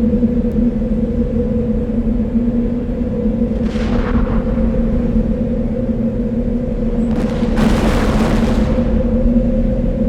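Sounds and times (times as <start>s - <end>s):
low engine drone: 0.0s - 10.0s.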